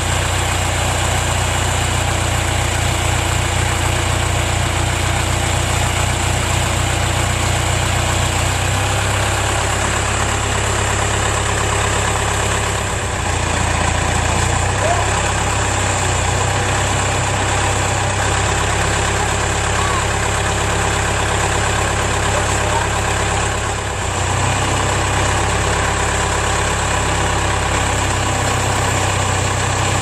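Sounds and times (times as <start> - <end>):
backhoe engine idling: 0.0 - 30.0.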